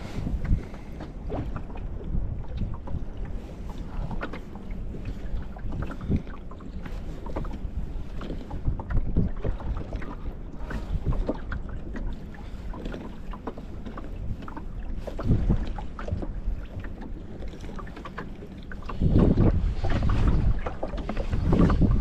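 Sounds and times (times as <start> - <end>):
waves lapping against boat hull: 0.0 - 22.0
wind buffeting microphone: 0.0 - 22.0.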